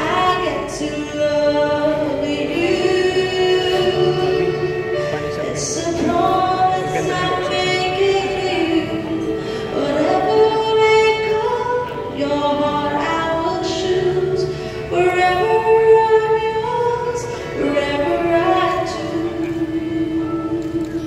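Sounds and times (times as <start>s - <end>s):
woman singing slowly: 0.0s - 21.0s.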